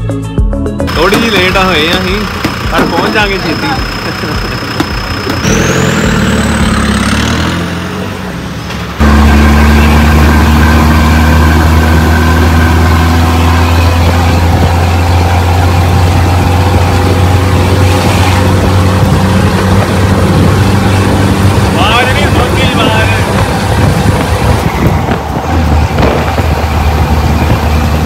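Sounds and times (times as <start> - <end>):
high engine whine: 0.9 - 28.0
low engine drone: 0.9 - 28.0.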